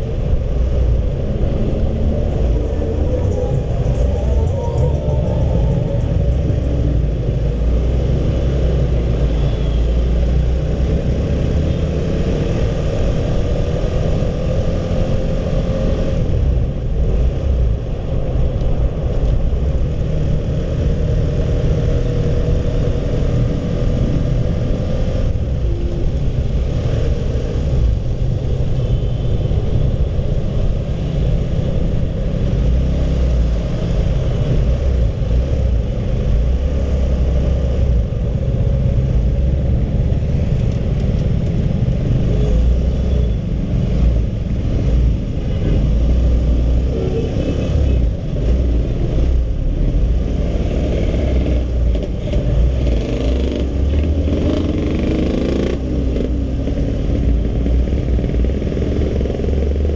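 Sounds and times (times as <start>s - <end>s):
wind rumble on microphone: 0.0s - 9.6s, 10.4s - 59.9s.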